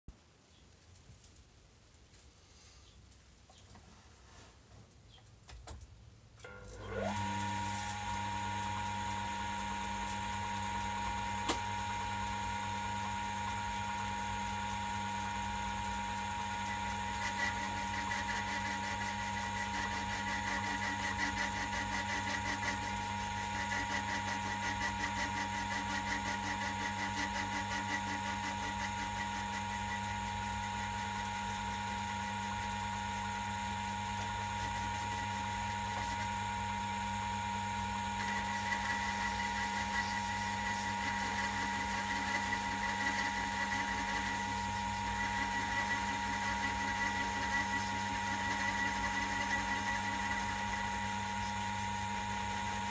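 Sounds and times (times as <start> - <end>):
lathe motor whine: 6.4 - 52.9.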